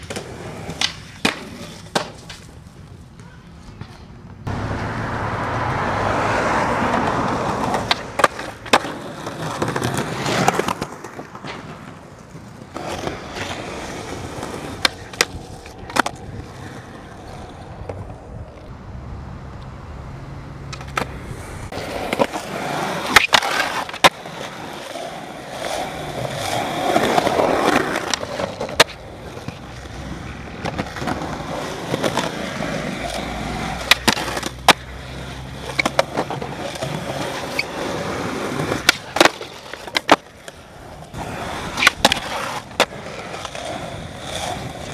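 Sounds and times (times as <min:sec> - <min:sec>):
skateboard popping and landing: 0:00.0 - 0:04.4, 0:06.5 - 0:18.7, 0:20.6 - 0:44.9
skateboard trucks grinding on concrete: 0:00.0 - 0:44.9
skateboard wheels rolling on concrete: 0:00.0 - 0:44.9.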